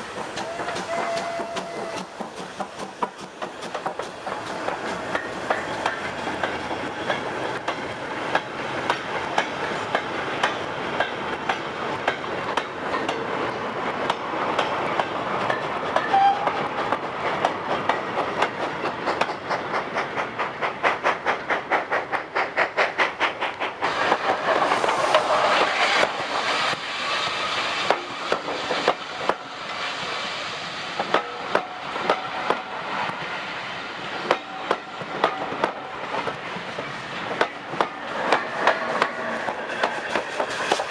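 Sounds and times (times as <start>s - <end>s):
train wheels clicking over rail joints: 0.0s - 30.1s, 31.0s - 40.9s
train rumble: 0.0s - 40.9s.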